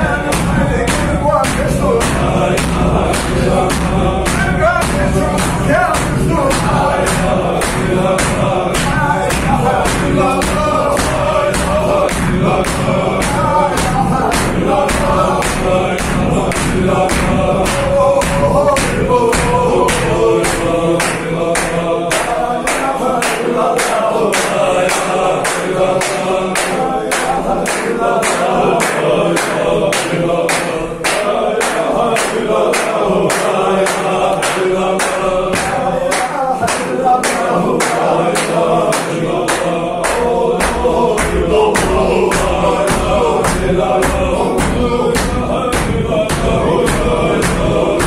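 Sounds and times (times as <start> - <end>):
hand claps: 0.0 - 48.0
men chanting in unison: 0.0 - 48.0.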